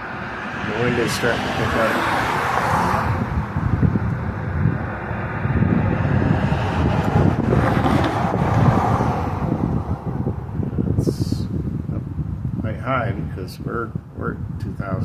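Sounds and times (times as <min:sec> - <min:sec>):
gusty wind on microphone: 0:00.0 - 0:15.0.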